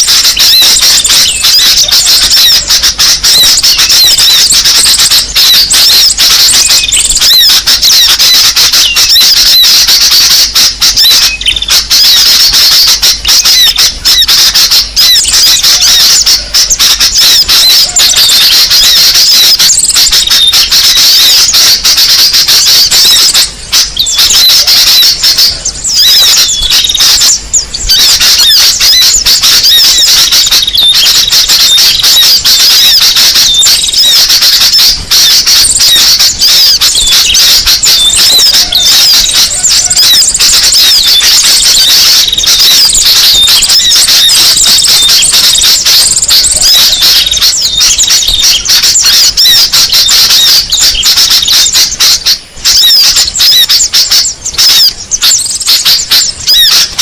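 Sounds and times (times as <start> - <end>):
many small birds chirping: 0.0 - 21.6, 22.5 - 52.3, 53.2 - 57.0.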